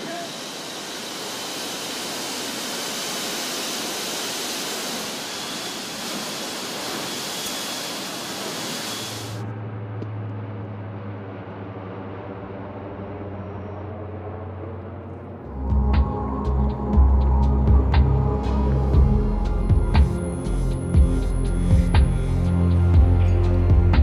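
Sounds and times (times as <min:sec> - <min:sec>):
aircraft engine noise: 0:00.0 - 0:24.0
turboprop engines humming: 0:00.0 - 0:24.0.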